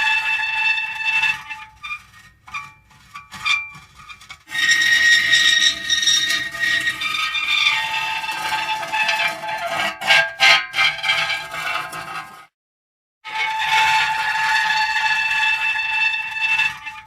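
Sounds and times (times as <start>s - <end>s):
metal creaking and squealing: 0.0s - 12.5s, 13.3s - 17.0s.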